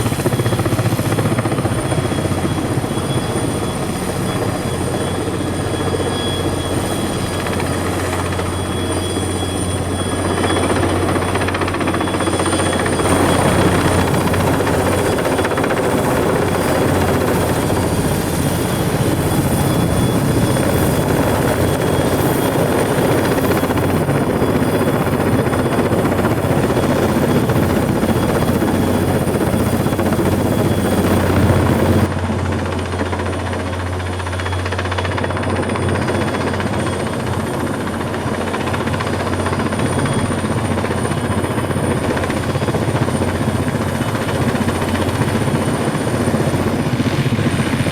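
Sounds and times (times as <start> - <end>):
helicopter rotor noise: 0.0 - 47.9
high turbine whine: 0.0 - 47.9.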